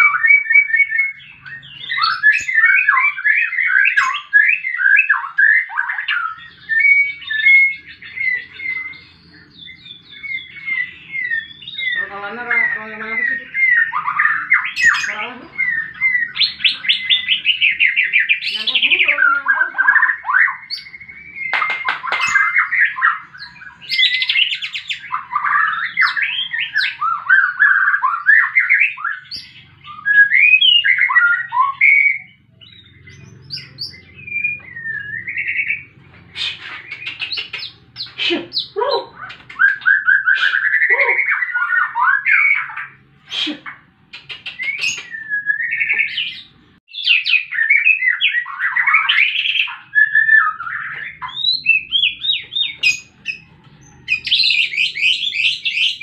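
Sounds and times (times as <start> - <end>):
bird singing: 0.0 - 56.0.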